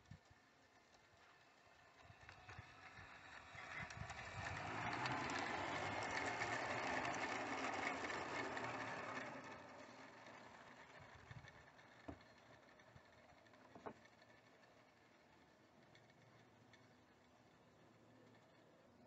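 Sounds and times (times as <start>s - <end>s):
model train motor and wheels: 0.0s - 19.0s.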